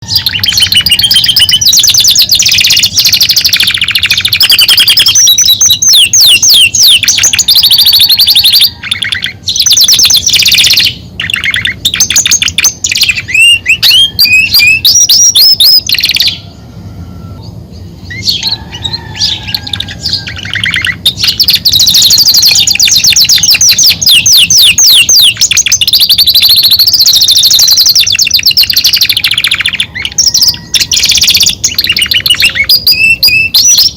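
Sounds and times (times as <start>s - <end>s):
canary singing rapid trills: 0.0s - 33.9s.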